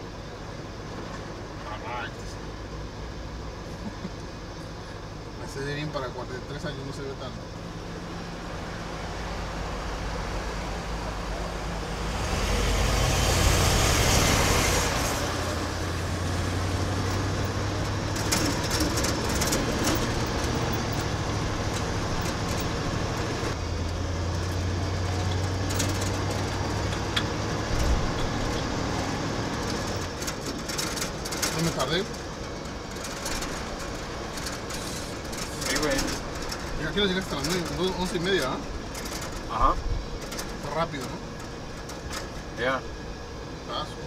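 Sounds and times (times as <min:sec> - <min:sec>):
road noise: 0:00.0 - 0:44.0
truck engine running: 0:00.0 - 0:44.0.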